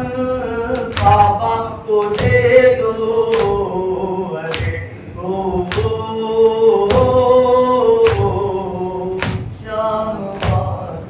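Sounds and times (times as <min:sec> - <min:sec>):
men chanting: 0:00.0 - 0:11.0.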